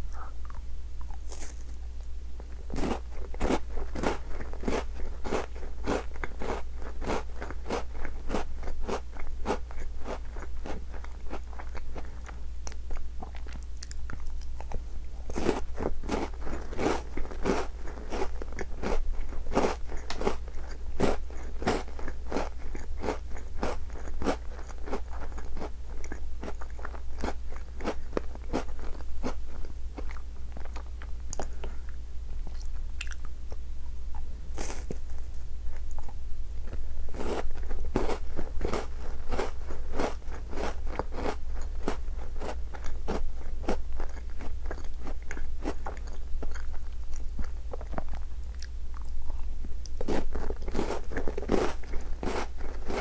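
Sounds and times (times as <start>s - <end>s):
biscuits crunching: 0.4s - 31.8s, 34.5s - 53.0s.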